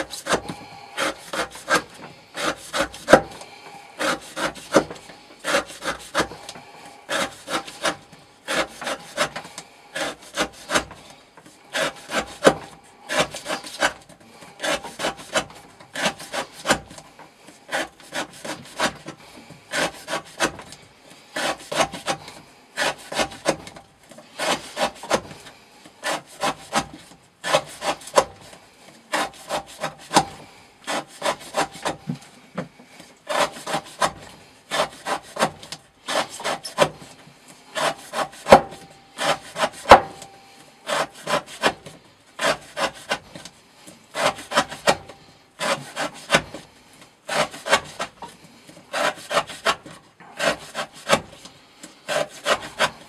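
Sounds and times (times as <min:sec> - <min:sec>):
knife sawing through rope: 0:00.0 - 0:53.0.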